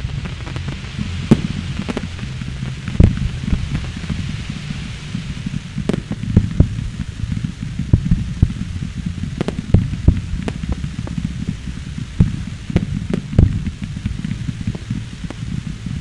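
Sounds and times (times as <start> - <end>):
firework bangs and crackles: 0.0 - 16.0
low rumble of fireworks: 0.0 - 16.0.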